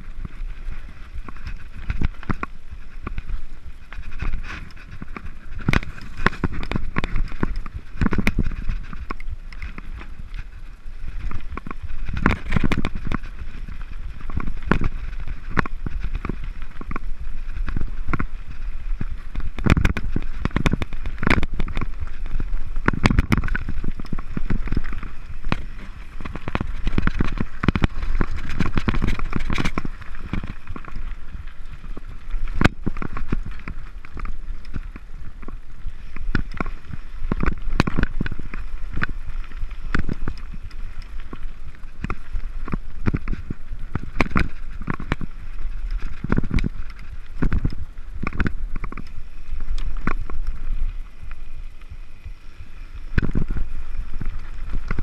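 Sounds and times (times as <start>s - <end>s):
bike knocking and rattling: 0.0s - 55.0s
bike tyres on gravel: 0.0s - 55.0s
wind rumble on microphone: 0.0s - 55.0s.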